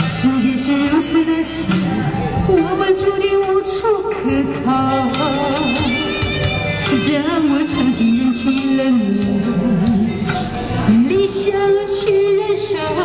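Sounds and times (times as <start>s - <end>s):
backing track music: 0.0s - 13.0s
woman singing pop song: 0.0s - 13.0s.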